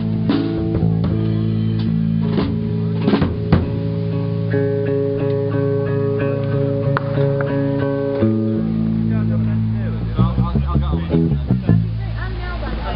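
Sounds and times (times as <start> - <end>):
guitar chords over bass: 0.0 - 12.2.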